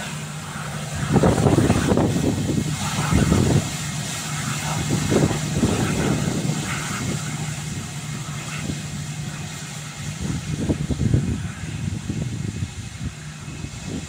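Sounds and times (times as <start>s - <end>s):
jet engines running at low thrust: 0.0s - 14.0s.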